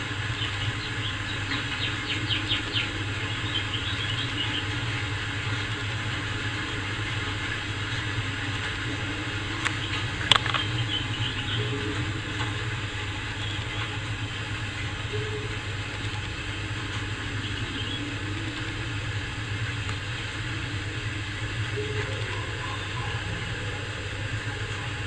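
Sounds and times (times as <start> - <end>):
steady low hum with hiss: 0.0 - 25.0.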